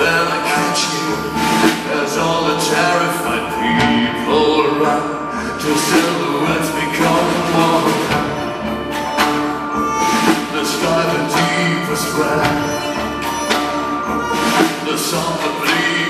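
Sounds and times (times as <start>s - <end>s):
percussion strikes: 0.0s - 4.9s, 5.6s - 16.0s
man singing: 0.0s - 8.8s, 10.2s - 13.2s, 14.4s - 16.0s
band and orchestra playing: 0.0s - 16.0s.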